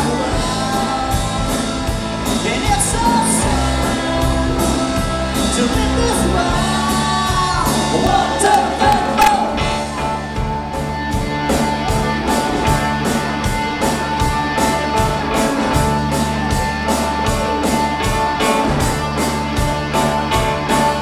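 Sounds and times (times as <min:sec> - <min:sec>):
bass guitar: 0:00.0 - 0:21.0
drums keeping a steady beat: 0:00.0 - 0:21.0
electric guitars: 0:00.0 - 0:21.0.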